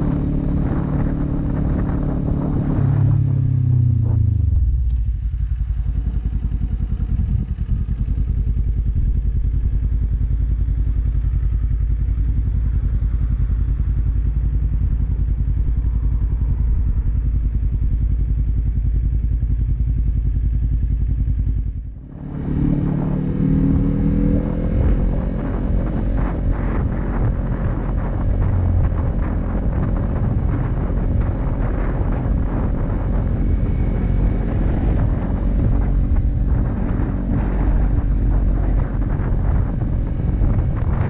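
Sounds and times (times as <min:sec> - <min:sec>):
motorcycle revving and pulling away: 0:00.0 - 0:41.0
motorcycle engine idling: 0:03.2 - 0:23.1, 0:24.1 - 0:41.0.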